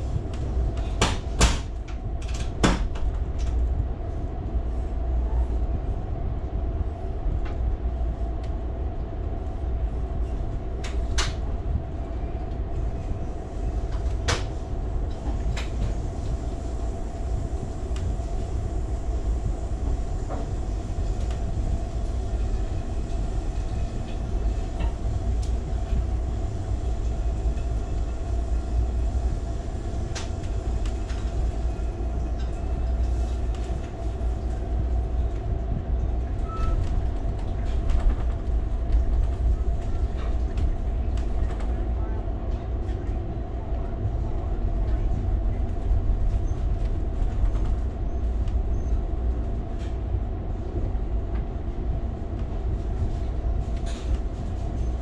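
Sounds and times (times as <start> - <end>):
constant hum: 0.0 - 55.0
railcar low rumble: 0.0 - 55.0.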